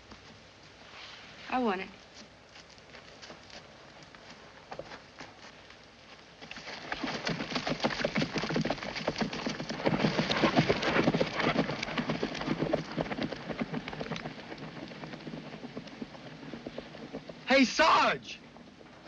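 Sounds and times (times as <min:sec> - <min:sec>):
horses' hooves on hard ground: 0:02.0 - 0:19.0.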